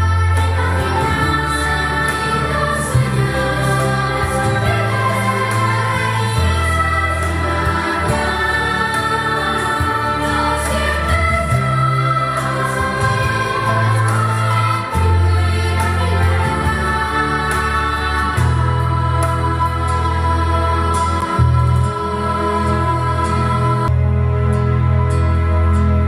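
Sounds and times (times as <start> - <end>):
orchestral music with choir: 0.0 - 26.0.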